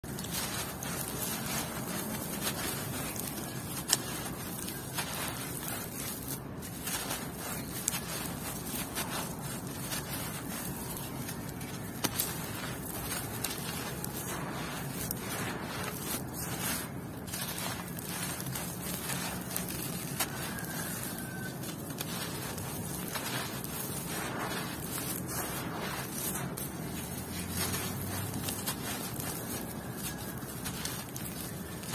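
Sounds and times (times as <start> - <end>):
grains trickling onto dirt: 0.0 - 31.9
hands crushing dry dirt: 0.0 - 31.9.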